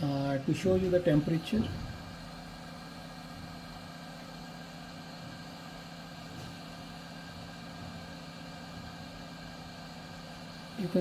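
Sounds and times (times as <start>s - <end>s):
hot air blower humming: 0.0s - 11.0s.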